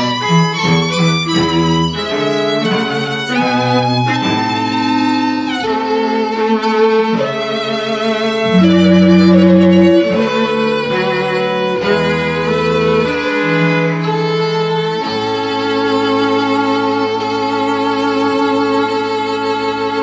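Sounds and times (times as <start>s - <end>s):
string trio bowing chords: 0.0s - 20.0s.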